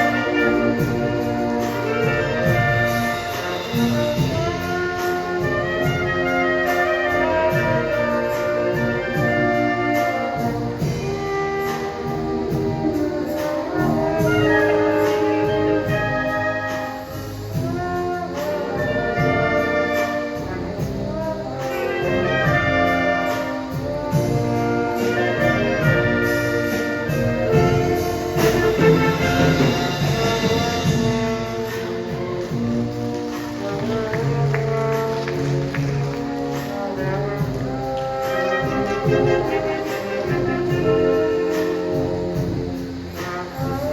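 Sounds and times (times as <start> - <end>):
marching band brass playing: 0.0 - 43.9
steady drum beat: 0.0 - 43.9.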